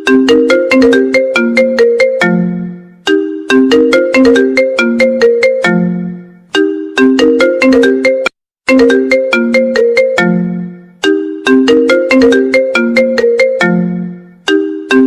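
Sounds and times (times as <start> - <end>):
phone ringtone bell-like notes: 0.0 - 15.0.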